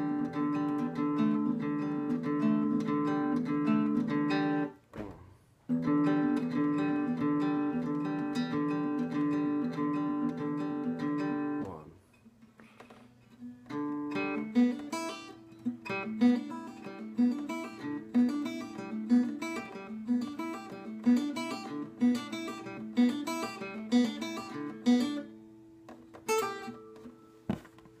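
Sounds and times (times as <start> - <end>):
fingerstyle acoustic guitar: 0.0 - 28.0.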